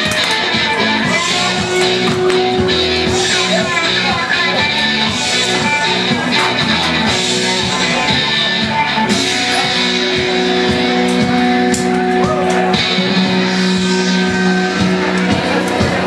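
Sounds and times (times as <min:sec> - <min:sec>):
music with guitar and beat: 0:00.0 - 0:16.0.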